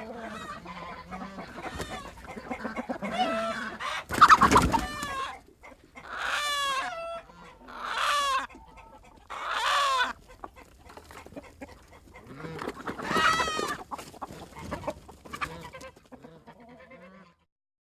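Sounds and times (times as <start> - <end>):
chickens squawking: 0.0 - 17.4
chickens clucking: 0.0 - 17.5.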